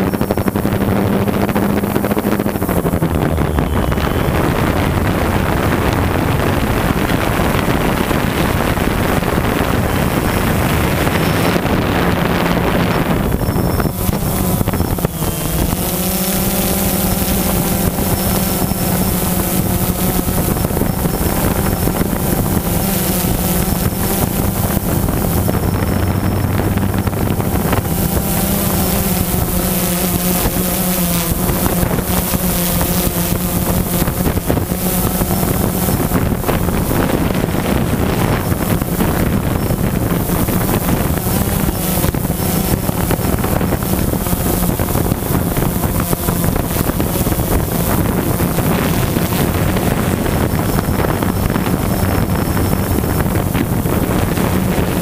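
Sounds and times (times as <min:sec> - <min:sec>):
drone propellers buzzing: 0:00.0 - 0:55.0
wind on microphone: 0:00.0 - 0:55.0.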